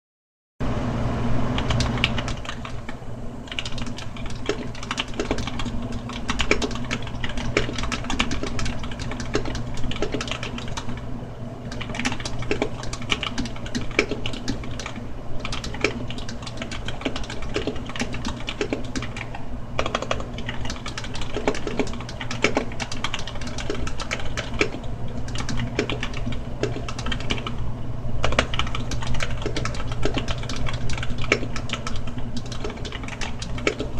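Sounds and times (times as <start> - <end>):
steady low hum: 0.6 - 33.9
mechanical keyboard typing: 1.6 - 11.0, 11.7 - 27.6, 28.2 - 33.9.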